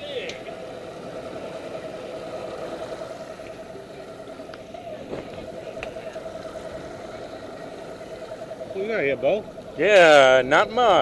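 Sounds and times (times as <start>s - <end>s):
outboard motors running: 0.0s - 11.0s
water wash: 0.0s - 11.0s
wind: 0.0s - 11.0s.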